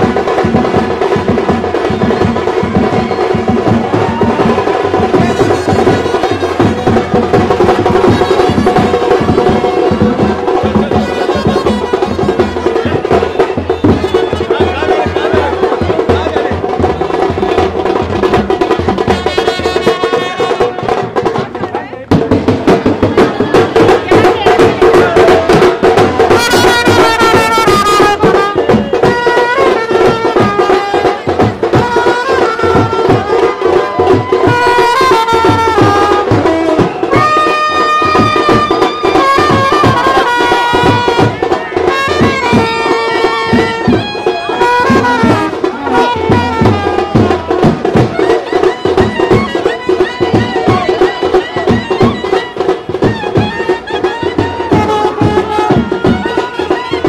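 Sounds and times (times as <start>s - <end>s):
brass band playing: 0.0s - 16.4s, 17.1s - 21.3s, 22.8s - 57.0s
drums beating fast rhythm: 0.0s - 57.0s.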